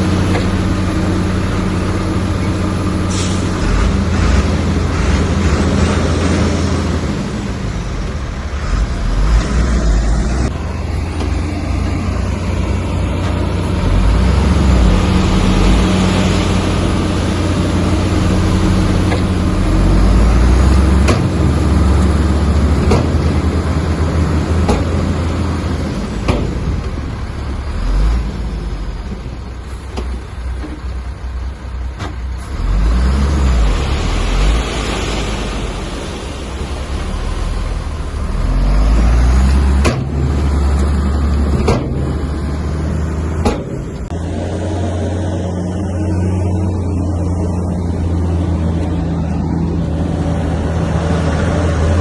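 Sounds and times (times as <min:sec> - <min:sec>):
heavy diesel machinery rumbling: 0:00.0 - 0:52.0.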